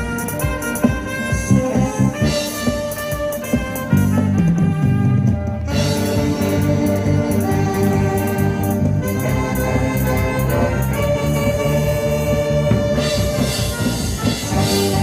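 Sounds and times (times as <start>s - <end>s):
amateur ensemble playing: 0.0s - 15.0s.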